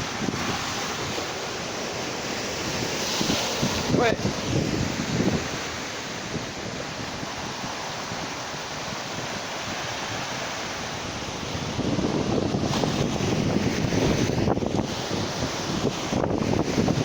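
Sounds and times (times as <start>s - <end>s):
ocean surf hissing: 0.0s - 17.0s
wind buffeting microphone: 0.0s - 17.0s.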